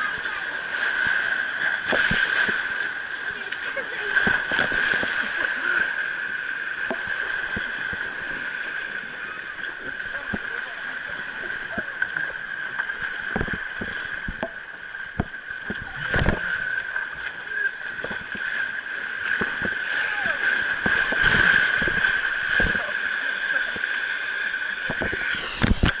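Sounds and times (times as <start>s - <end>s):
splashes: 0.0s - 26.0s
water rushing on slide: 0.0s - 26.0s.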